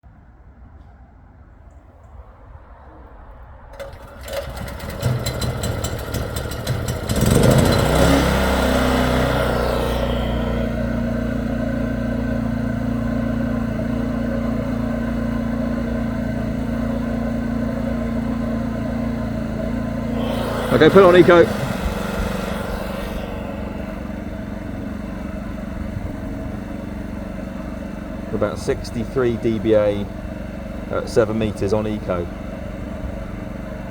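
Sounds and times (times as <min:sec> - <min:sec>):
generator engine starting and running: 0:03.5 - 0:33.9.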